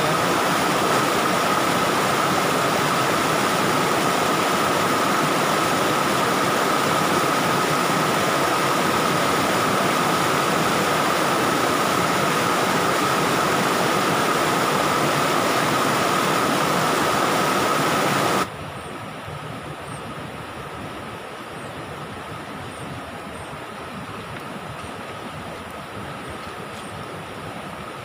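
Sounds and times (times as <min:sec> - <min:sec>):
stream rushing over rocks: 0:00.0 - 0:18.5, 0:20.3 - 0:28.0.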